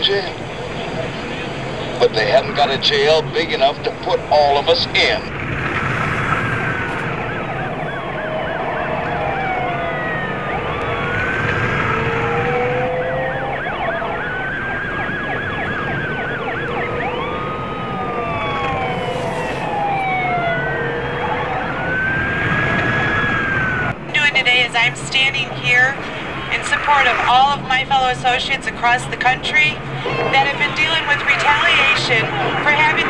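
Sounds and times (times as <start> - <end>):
low hum: 0.0 - 32.9
emergency sirens wailing: 0.0 - 33.0
siren yelp: 0.0 - 33.0.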